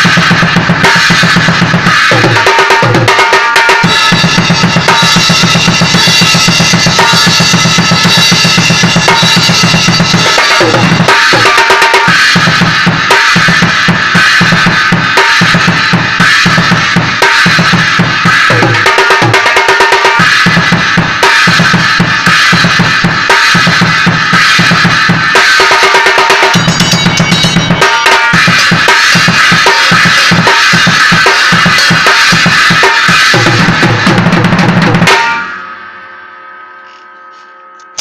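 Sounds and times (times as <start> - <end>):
drum kit played fast: 0.0 - 35.8
cymbal ringing tail: 0.0 - 38.0.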